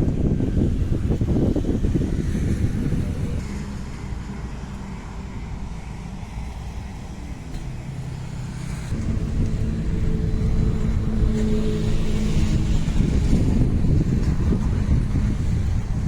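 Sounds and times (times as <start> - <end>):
diesel engine running: 0.2 - 16.0.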